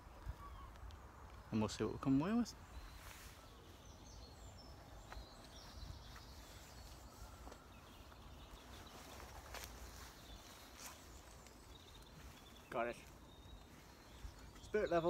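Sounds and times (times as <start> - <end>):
distant bird calls: 0.0 - 15.0.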